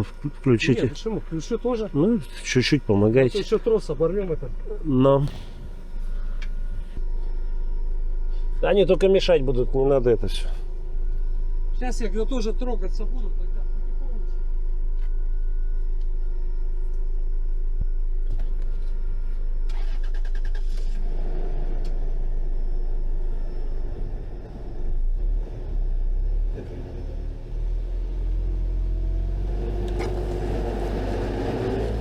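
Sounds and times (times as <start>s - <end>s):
car engines running under load: 0.0s - 32.0s.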